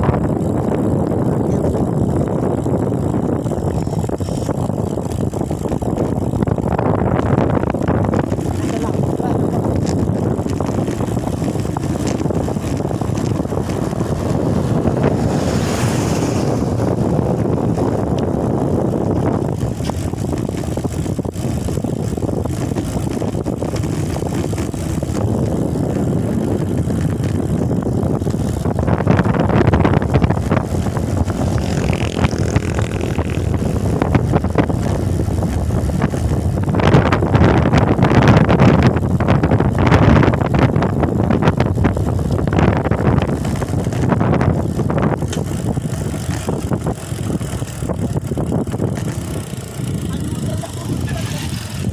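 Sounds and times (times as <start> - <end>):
vehicle rumble: 0.0 - 51.9
wind buffeting microphone: 0.0 - 51.9.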